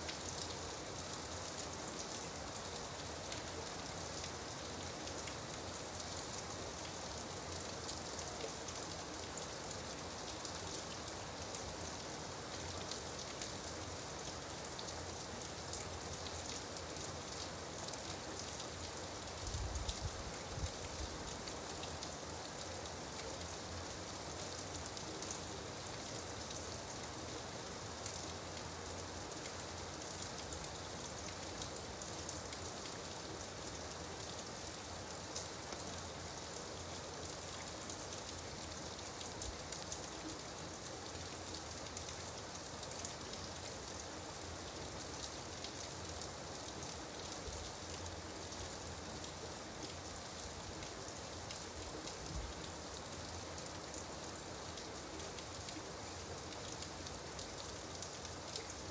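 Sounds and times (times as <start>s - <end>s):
gentle rain hiss: 0.0s - 58.9s.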